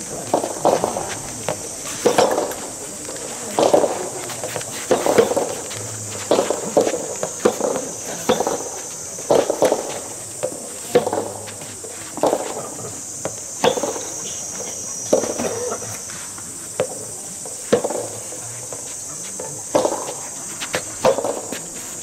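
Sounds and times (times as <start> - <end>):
insects droning: 0.0 - 22.0
tennis balls struck by rackets: 0.0 - 22.0.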